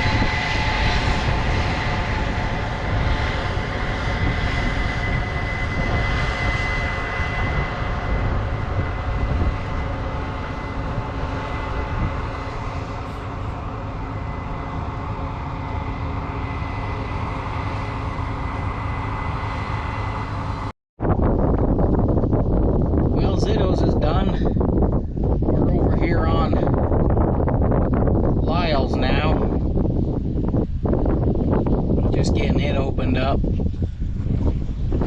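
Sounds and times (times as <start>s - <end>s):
constant high whine: 0.0s - 35.0s
deep engine drone: 0.0s - 35.0s
rough wind-like noise: 0.0s - 35.0s.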